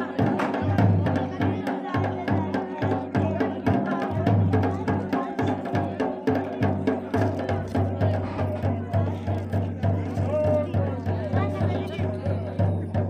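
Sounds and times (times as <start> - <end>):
drum beaten in quick rhythm: 0.0 - 13.0.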